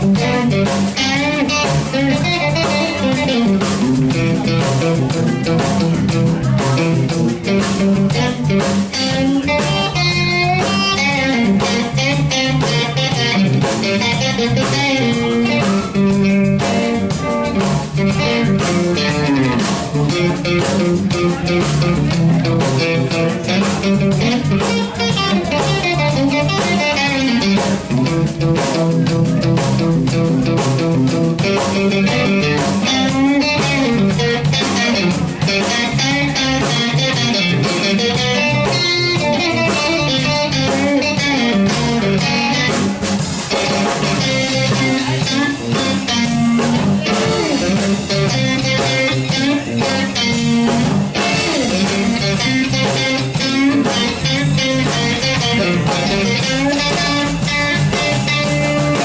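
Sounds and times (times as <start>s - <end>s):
electric guitars jamming: 0.0s - 59.0s.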